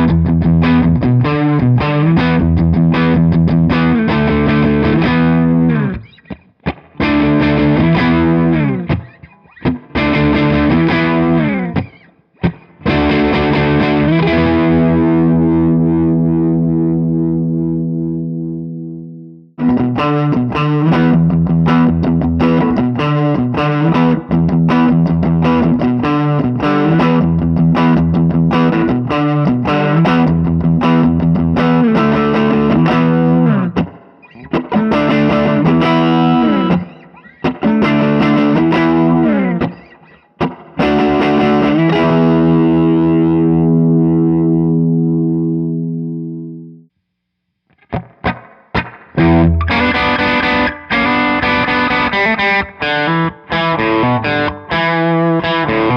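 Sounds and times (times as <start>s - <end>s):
crunchy electric guitar riff: 0.0s - 46.9s, 47.7s - 55.9s.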